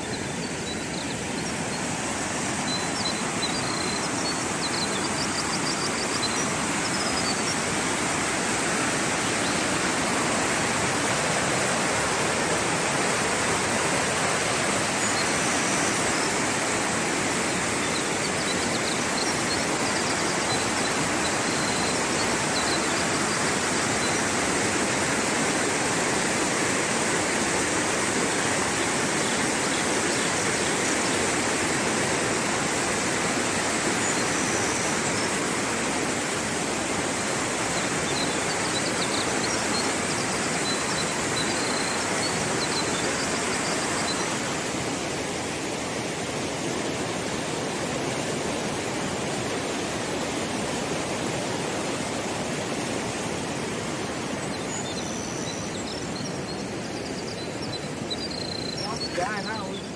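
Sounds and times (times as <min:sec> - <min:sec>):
flowing water rushing: 0:00.0 - 0:59.9.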